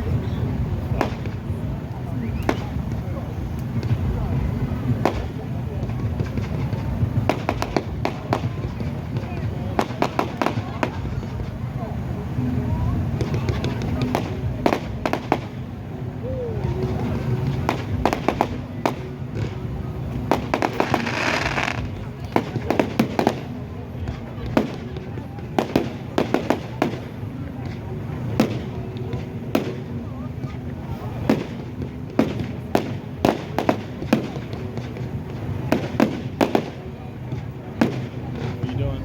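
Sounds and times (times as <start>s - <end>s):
fireworks bangs and cracks: 0.1s - 39.0s.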